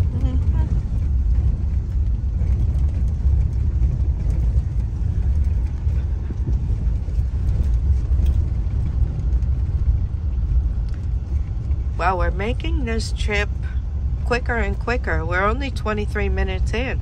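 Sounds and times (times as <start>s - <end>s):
car engine and road noise: 0.0s - 17.0s
faint ticks and rattles: 0.0s - 17.0s.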